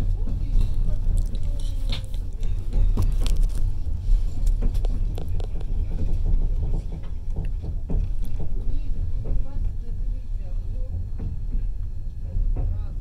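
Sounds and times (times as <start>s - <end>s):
passenger train rumbling: 0.0s - 13.0s
train clicks and rattles: 0.0s - 13.0s.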